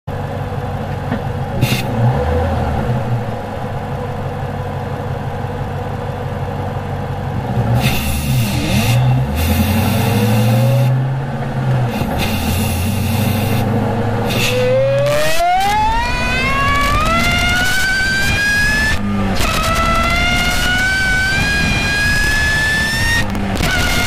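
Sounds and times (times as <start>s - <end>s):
car engine idling and revving: 0.1s - 24.0s.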